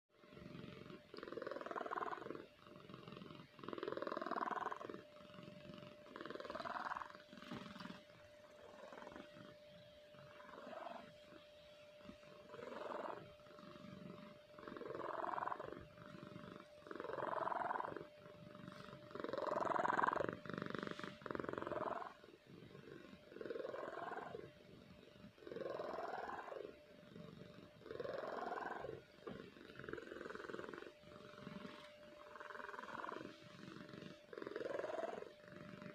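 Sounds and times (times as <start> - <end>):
cat snoring: 0.2 - 35.9.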